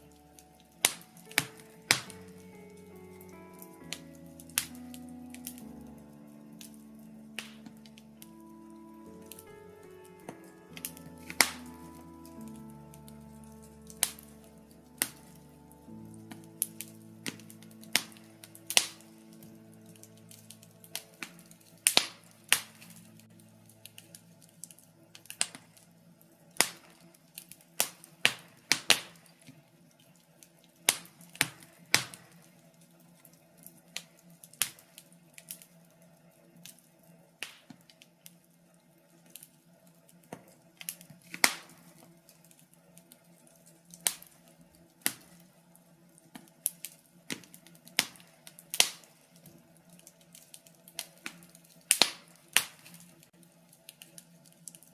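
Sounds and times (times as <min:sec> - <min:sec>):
faint steady low hum: 0:00.0 - 0:54.9
wood fire crackling and popping: 0:00.0 - 0:54.9.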